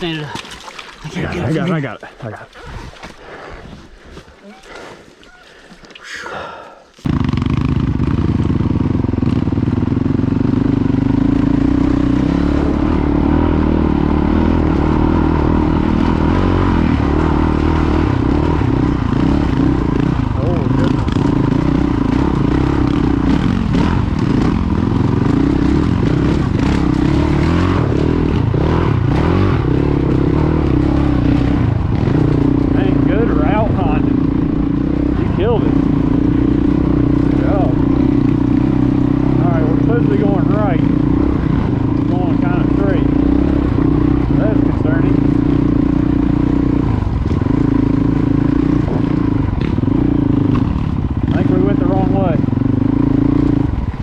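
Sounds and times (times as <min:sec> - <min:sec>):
motorcycle engine revving: 0:07.0 - 0:54.0.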